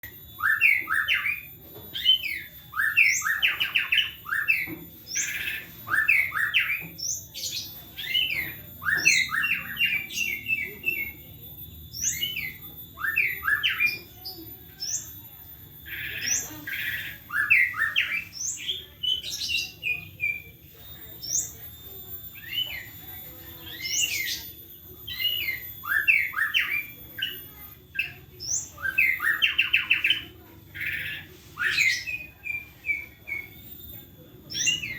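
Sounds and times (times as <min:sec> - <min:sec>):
songbird singing whistles: 0:00.0 - 0:34.9.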